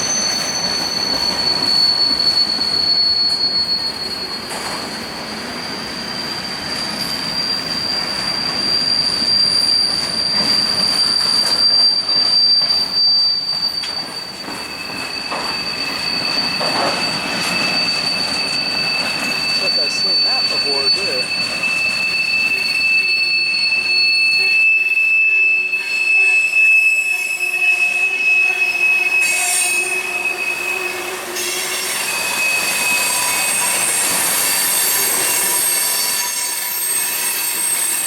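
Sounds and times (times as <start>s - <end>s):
freight train cars rumbling: 0.0s - 38.0s
high-pitched wheel squeal: 0.0s - 38.0s.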